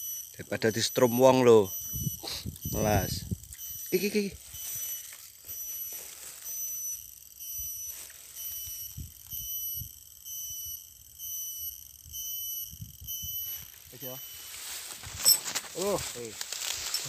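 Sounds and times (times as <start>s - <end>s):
insects calling in pulsing chorus: 0.0s - 17.0s.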